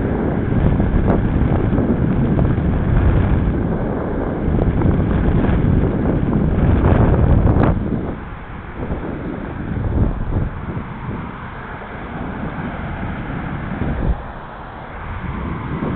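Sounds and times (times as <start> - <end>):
road noise: 0.0 - 15.9
wind buffeting microphone: 0.0 - 15.9.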